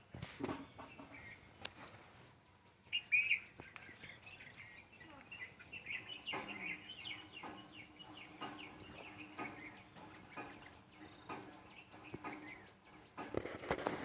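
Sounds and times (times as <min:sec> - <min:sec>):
faint bird chirps: 0:00.5 - 0:14.0.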